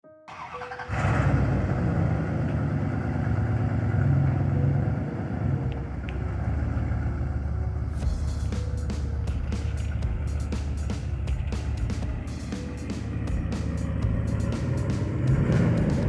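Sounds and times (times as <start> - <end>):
pickup truck engine droning: 0.3 - 16.0.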